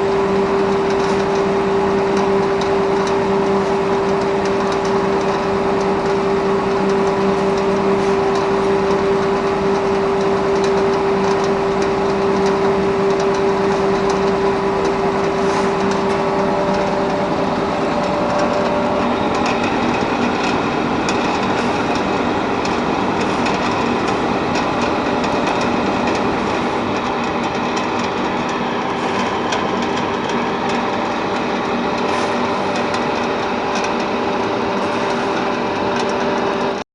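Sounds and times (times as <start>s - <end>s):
steady machine hum: 0.0s - 36.8s.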